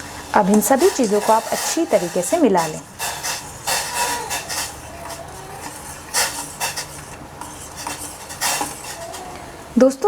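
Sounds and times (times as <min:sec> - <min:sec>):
spoon stirring boiling pot: 0:00.0 - 0:09.8.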